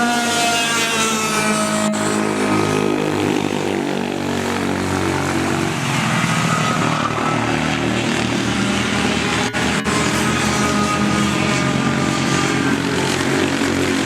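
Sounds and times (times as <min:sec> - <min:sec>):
kart engine running: 0:00.0 - 0:14.0.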